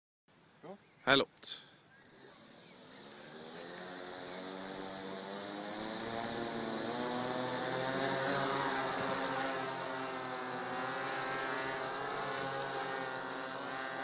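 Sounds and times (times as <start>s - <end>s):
quadcopter propellers buzzing: 2.0s - 14.0s
thin high whine: 2.0s - 14.0s.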